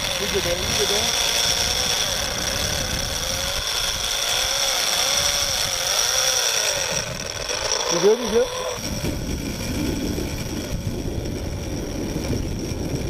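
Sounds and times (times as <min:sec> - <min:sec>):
fishing reel drag screaming: 0:00.0 - 0:13.0.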